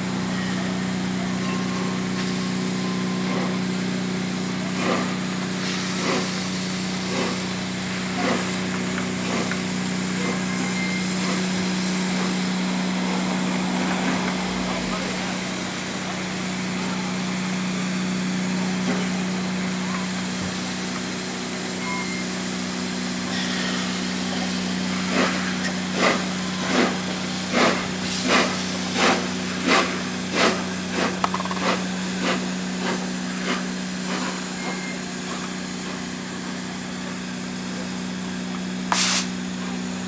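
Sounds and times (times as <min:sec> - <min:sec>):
steam hissing: 0:00.0 - 0:39.8
steam locomotive exhaust chuffs: 0:00.0 - 0:40.0.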